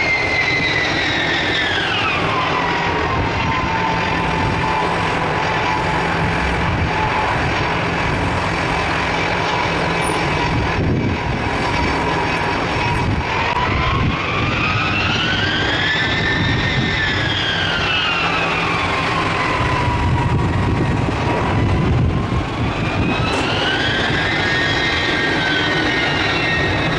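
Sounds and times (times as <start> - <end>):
jet engine rumble and hiss: 0.0 - 26.9
jet engine whine: 0.0 - 26.9.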